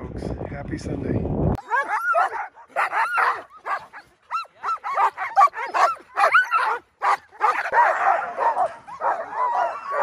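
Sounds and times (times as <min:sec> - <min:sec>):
sled dogs yipping and whining: 0:01.6 - 0:10.0.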